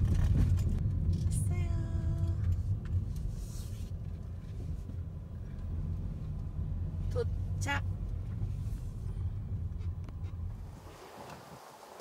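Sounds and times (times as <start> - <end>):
car rumbling on dirt road: 0.0 - 12.0.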